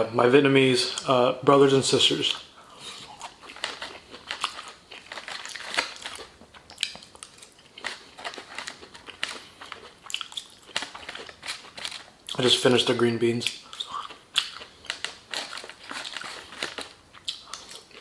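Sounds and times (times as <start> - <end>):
close chewing sounds: 2.3 - 18.0.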